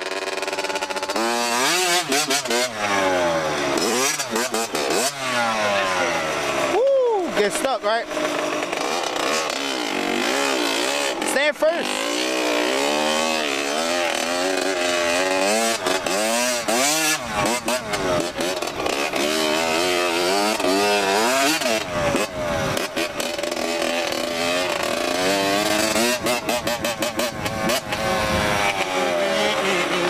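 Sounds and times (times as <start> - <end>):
small engine revving: 0.0 - 30.0.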